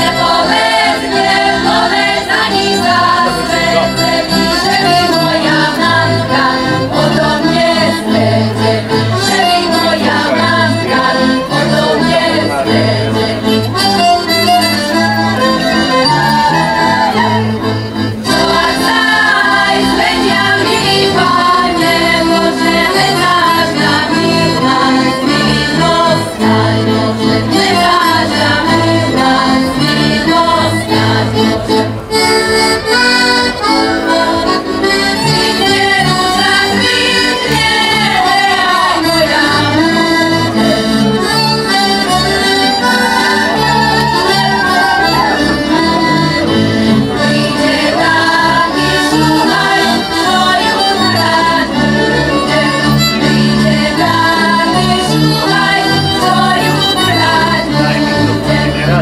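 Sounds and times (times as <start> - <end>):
women singing folk song: 0.0 - 13.9, 14.9 - 31.8, 33.6 - 46.1, 47.1 - 59.0
double bass: 0.0 - 59.0
folk band playing: 0.0 - 59.0.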